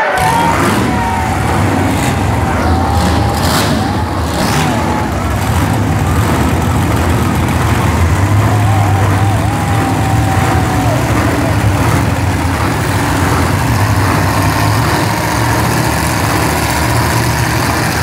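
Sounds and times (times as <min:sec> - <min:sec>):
monster truck engines droning: 0:00.0 - 0:18.0.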